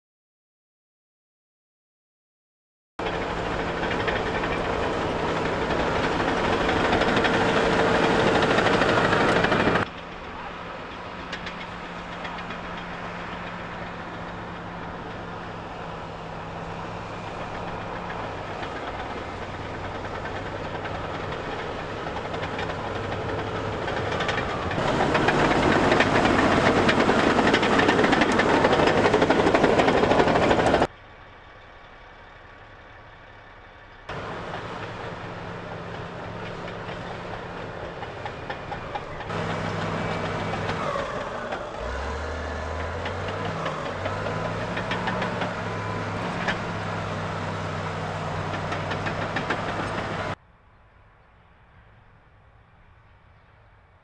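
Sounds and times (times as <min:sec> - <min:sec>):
bulldozer diesel engine under load: 0:03.0 - 0:50.4.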